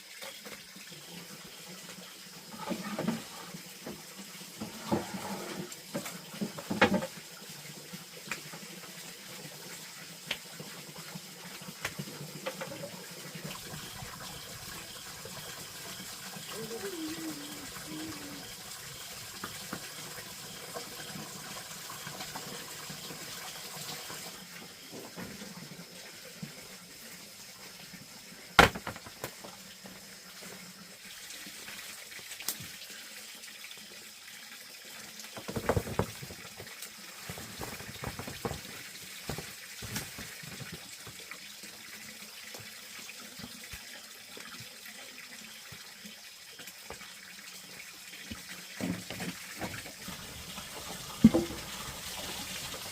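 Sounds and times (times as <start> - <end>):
water running: 0.0 - 52.9.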